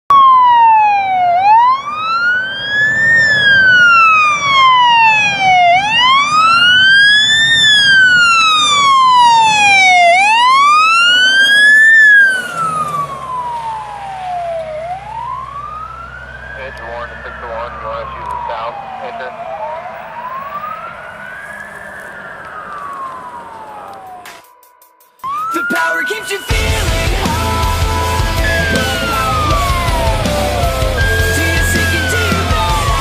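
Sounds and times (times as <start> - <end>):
truck engine and road rumble: 0.1 - 24.4, 25.3 - 33.0
fire engine siren wailing: 0.1 - 24.6, 25.2 - 33.0.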